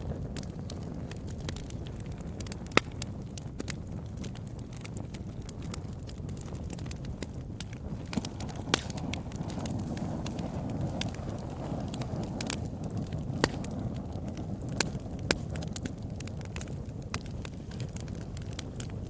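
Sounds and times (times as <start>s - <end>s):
fire crackling and popping: 0.0s - 19.0s
low rush of flame: 0.0s - 19.0s.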